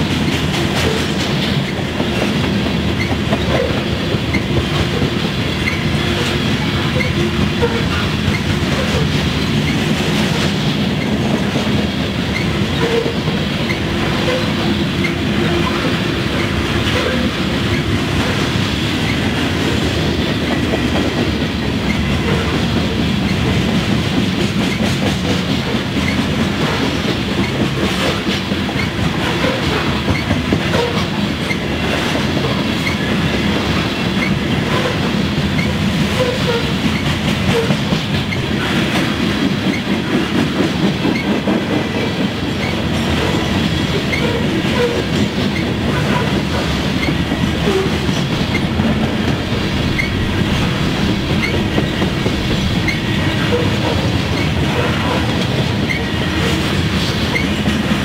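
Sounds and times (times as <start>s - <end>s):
freight train rolling: 0.0s - 58.0s
wheels clacking over rail joints: 0.0s - 58.0s.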